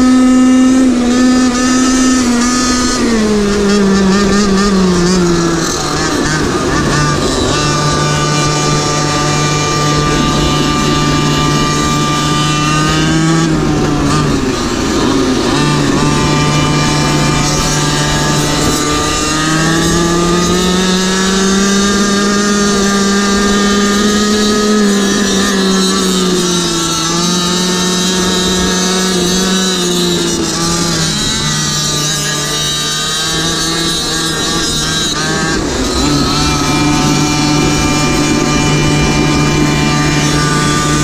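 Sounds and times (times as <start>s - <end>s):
small two-stroke engine revving: 0.0s - 41.0s.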